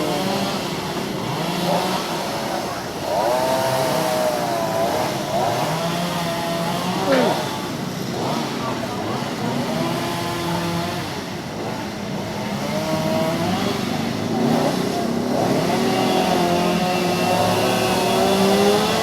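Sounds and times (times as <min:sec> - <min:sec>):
vehicle engines passing: 0:00.0 - 0:19.0.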